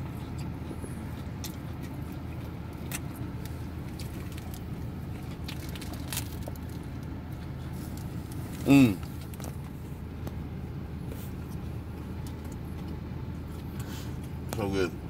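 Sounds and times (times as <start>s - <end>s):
chewing a sandwich: 0.0s - 14.6s
low hum inside a car: 0.0s - 15.0s.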